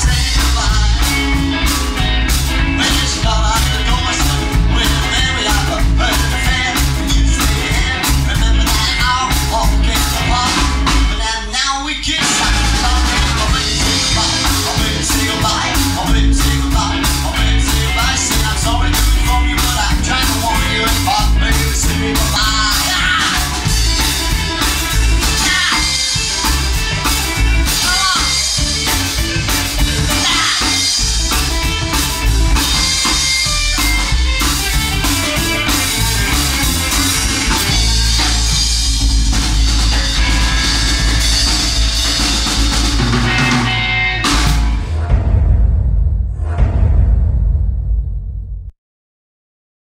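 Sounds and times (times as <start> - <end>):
rock and roll band music: 0.0 - 45.8.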